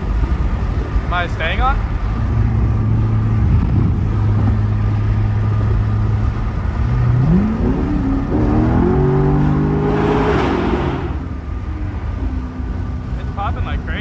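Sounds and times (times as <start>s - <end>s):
car engine accelerating: 1.8s - 14.0s.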